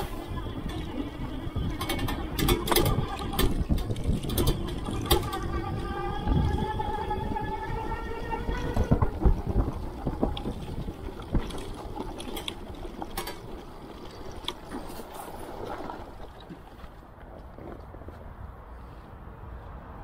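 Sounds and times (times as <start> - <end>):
bike knocks and rattles: 0.0 - 18.2
wind and ride rumble: 0.0 - 20.0.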